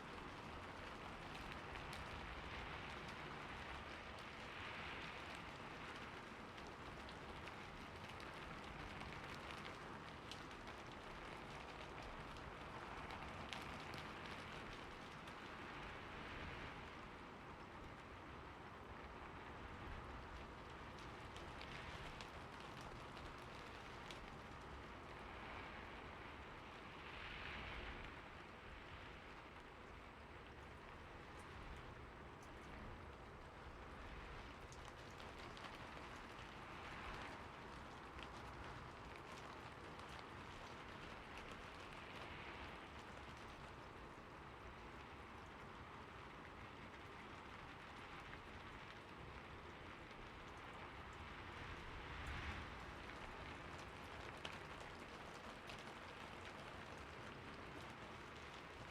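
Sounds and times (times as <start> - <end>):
raindrops pattering on a surface: 0.0 - 58.9
steady rain falling: 0.0 - 58.9.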